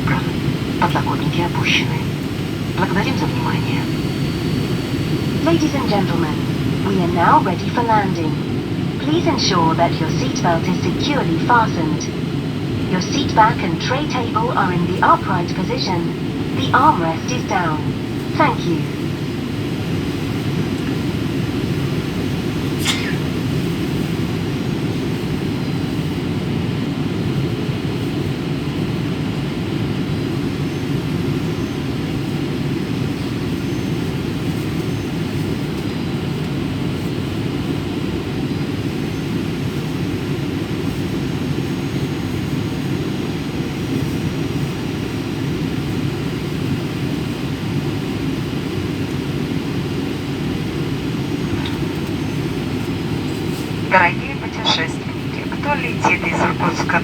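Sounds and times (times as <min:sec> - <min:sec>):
aircraft cabin engine rush: 0:00.0 - 0:57.0.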